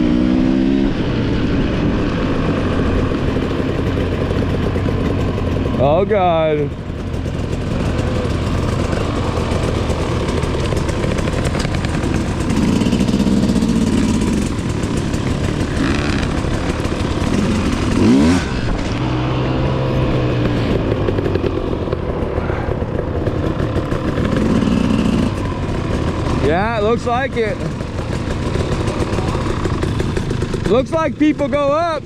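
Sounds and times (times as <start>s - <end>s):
dirt bike engine revving: 0.0s - 31.5s.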